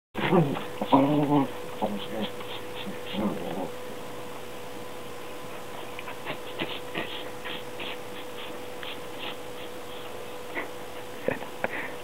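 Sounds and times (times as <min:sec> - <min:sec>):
electrical hum: 0:00.2 - 0:12.0.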